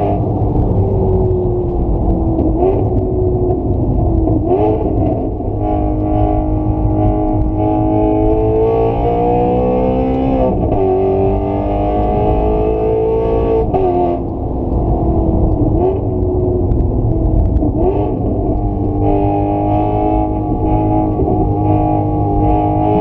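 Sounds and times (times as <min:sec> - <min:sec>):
engine accelerating at full throttle: 0:00.0 - 0:23.0.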